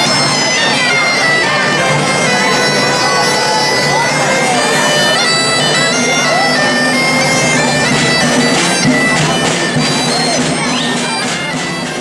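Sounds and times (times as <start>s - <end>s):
reed pipes playing folk melody: 0.0s - 12.0s.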